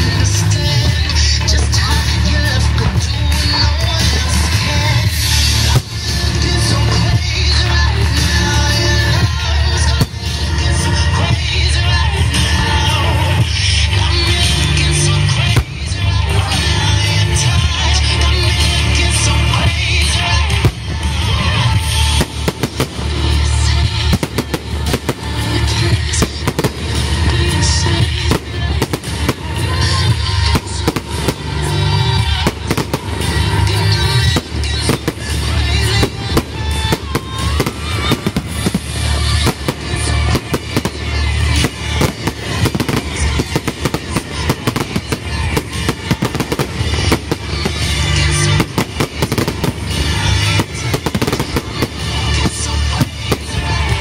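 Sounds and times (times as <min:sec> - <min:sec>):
fireworks bangs and crackles: 0:00.0 - 0:54.0
music playing: 0:00.0 - 0:54.0.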